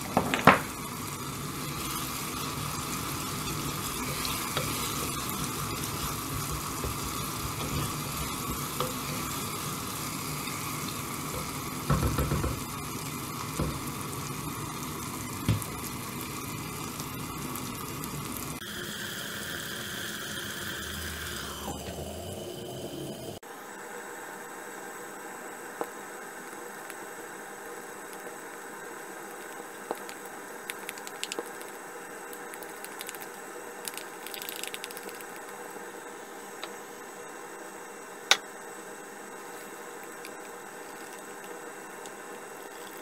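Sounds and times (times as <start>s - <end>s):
onion and tomato sizzling in oil: 0.0s - 43.0s.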